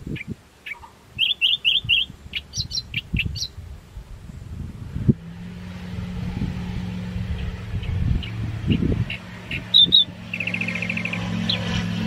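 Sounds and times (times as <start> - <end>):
small birds chirping: 0.0 - 5.2, 6.3 - 12.0
distant light aircraft engine drone: 0.0 - 12.0.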